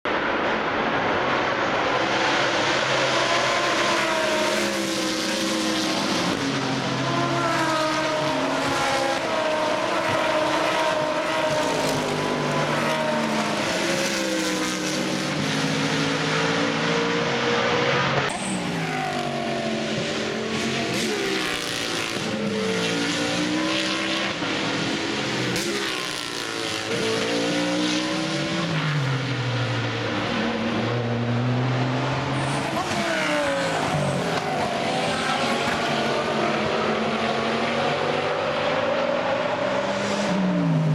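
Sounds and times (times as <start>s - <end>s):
race cars passing: 0.1s - 40.9s.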